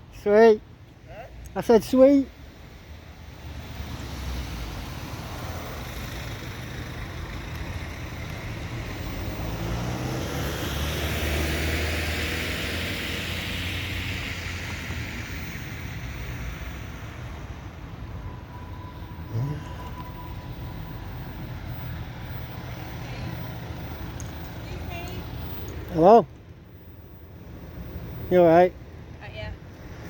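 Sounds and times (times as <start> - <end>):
road noise: 0.0 - 30.0
vehicle engine hum: 2.4 - 30.0.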